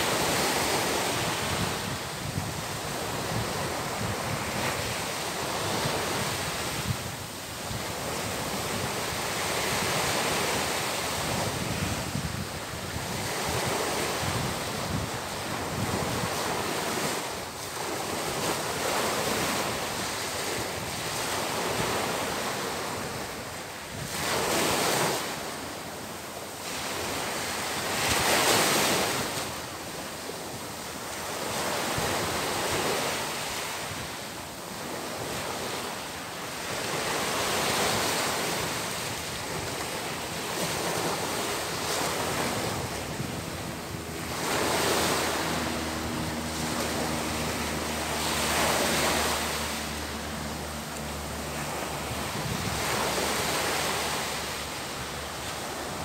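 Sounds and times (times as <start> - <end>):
surf breaking on beach: 0.0 - 56.0.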